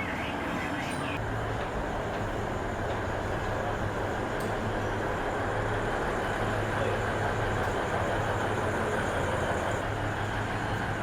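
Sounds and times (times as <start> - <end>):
train engine idling: 0.0 - 11.0.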